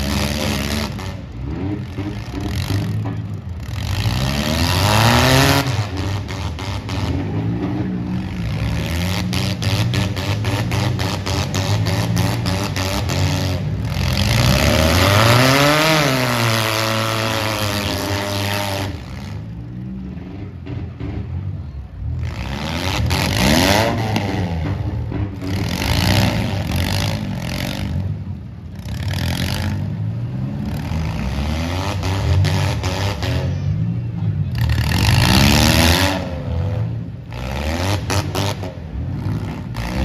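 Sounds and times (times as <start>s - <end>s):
car engines revving hard: 0.0s - 40.0s.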